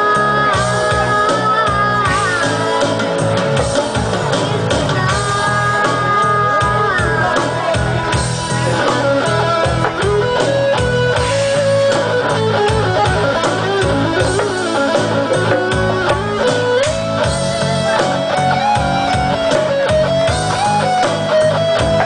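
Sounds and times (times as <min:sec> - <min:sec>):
electric guitar melody: 0:00.0 - 0:22.0
steady drum beat: 0:00.0 - 0:22.0.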